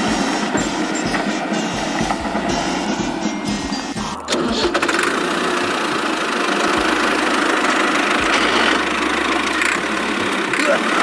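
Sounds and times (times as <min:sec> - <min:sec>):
music: 0:00.0 - 0:11.0
vehicle engine running roughly: 0:00.0 - 0:11.0.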